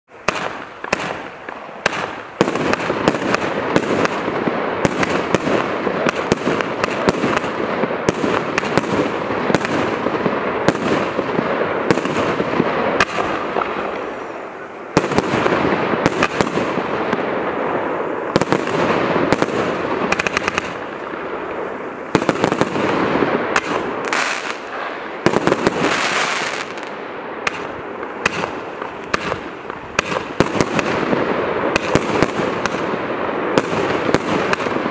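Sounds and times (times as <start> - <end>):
firework reports: 0.1 - 34.9
firework hiss: 0.2 - 34.9.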